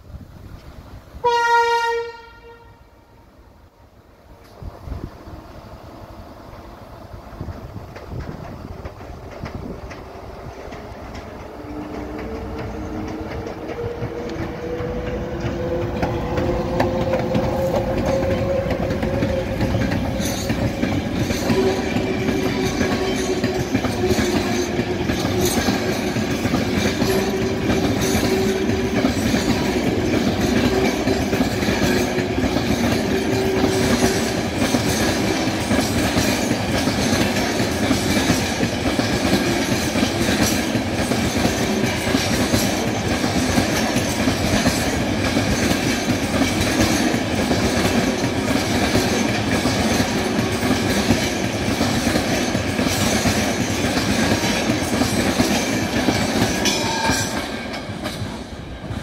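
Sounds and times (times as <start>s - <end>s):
electric locomotive whine: 0.0s - 59.0s
wagons clacking over rail joints: 7.4s - 59.0s.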